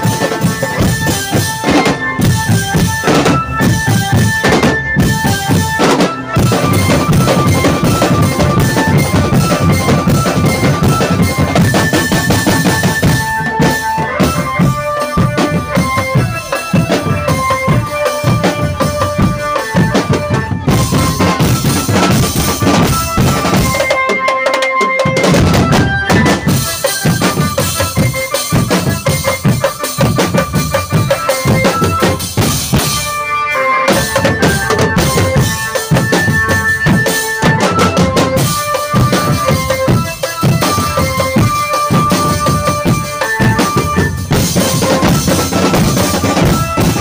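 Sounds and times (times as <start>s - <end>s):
bass and snare drumming: 0.0s - 33.2s, 33.8s - 47.0s
melody of short held notes: 0.0s - 47.0s.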